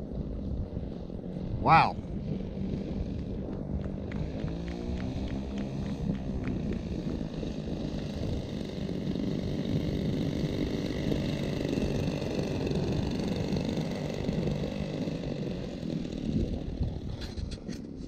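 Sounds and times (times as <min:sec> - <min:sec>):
model plane engines idling: 0:00.0 - 0:18.0.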